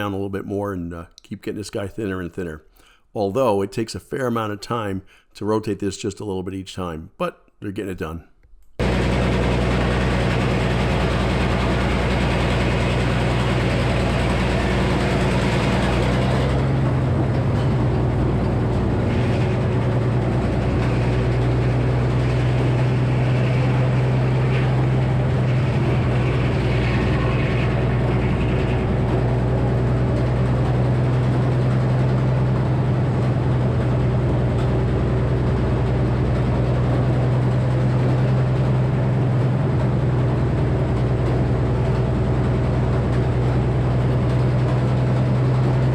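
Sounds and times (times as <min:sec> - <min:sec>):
circular saw running: 0:08.8 - 0:45.9
engine running: 0:08.8 - 0:45.9.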